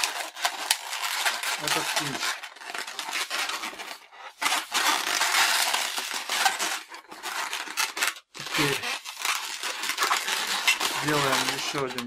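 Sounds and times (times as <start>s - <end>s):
balloon rubbing scratchy crackle: 0.0s - 12.0s.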